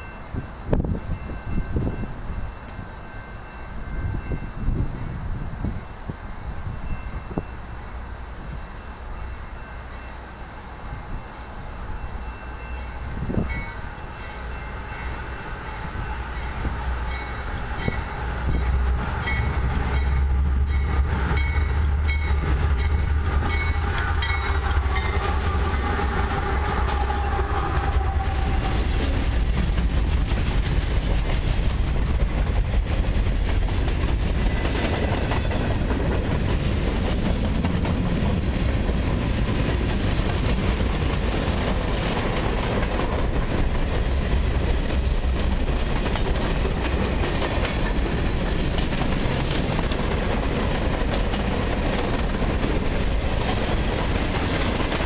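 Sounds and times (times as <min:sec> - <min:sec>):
diesel locomotive engines rumbling: 0:00.0 - 0:55.0
freight cars wheel-on-rail clatter: 0:00.0 - 0:55.0.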